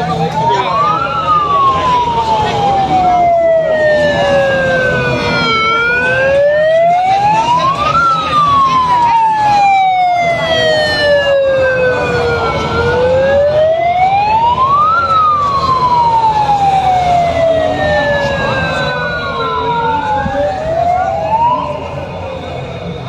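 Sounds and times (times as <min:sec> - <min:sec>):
second siren wailing: 0:00.0 - 0:23.0
siren wailing: 0:00.0 - 0:23.0.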